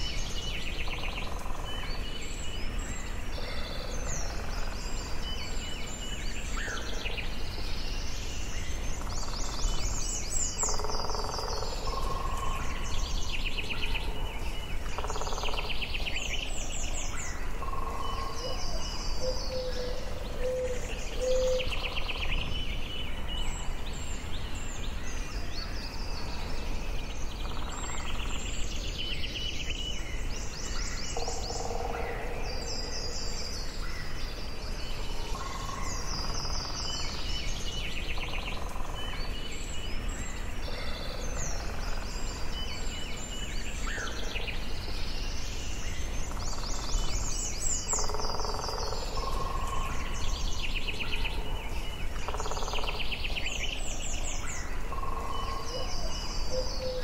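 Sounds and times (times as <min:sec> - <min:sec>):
birds singing and chirping: 0:00.0 - 0:57.0.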